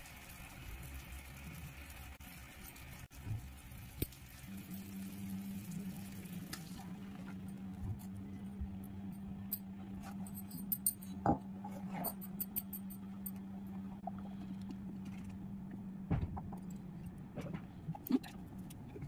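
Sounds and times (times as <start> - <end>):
steady low hum: 3.0 - 19.0.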